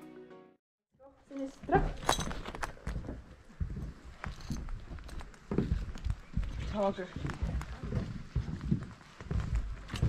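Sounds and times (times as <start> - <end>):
footsteps on wooden boardwalk: 1.3 - 10.0.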